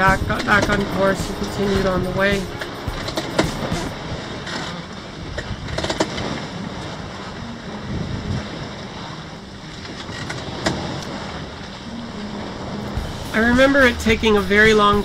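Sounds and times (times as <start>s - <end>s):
waves splashing along hull: 0.0s - 15.0s
wind buffeting microphone: 0.0s - 15.0s.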